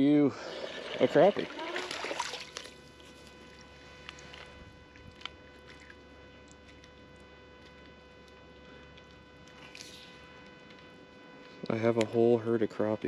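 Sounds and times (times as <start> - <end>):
steady faint hum: 0.0 - 13.0.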